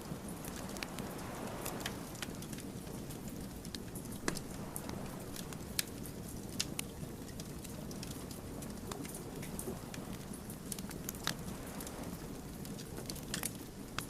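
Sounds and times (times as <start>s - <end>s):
low rush of flame: 0.0s - 14.0s
wood fire crackling and popping: 0.0s - 14.0s.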